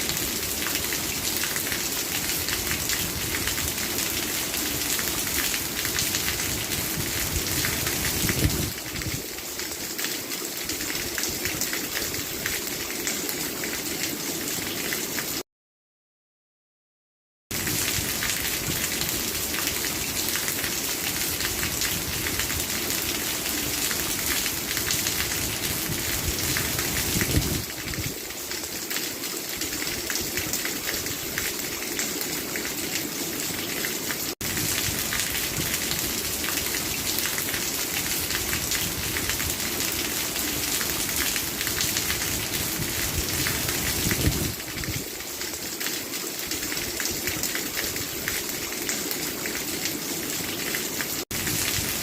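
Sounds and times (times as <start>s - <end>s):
steady rain hiss: 0.0s - 15.3s, 17.6s - 52.0s.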